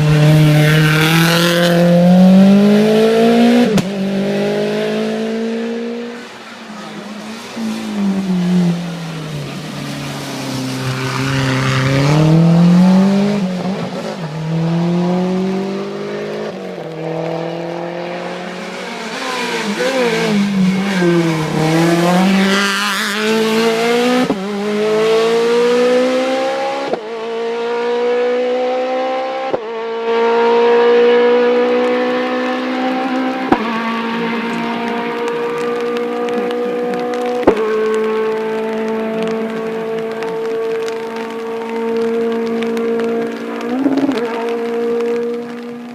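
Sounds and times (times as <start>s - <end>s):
rally car engine revving: 0.0s - 6.3s, 7.0s - 45.9s.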